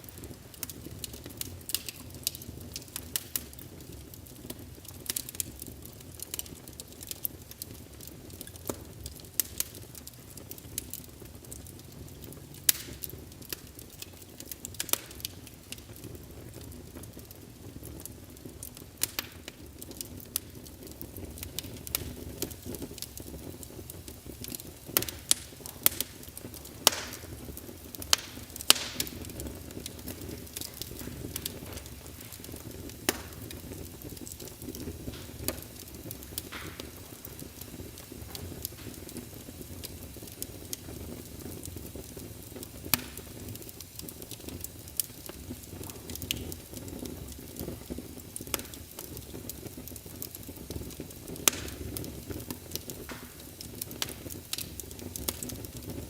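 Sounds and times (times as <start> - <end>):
logs crackling and popping: 0.0 - 56.0
low rumble of flame: 0.0 - 56.0.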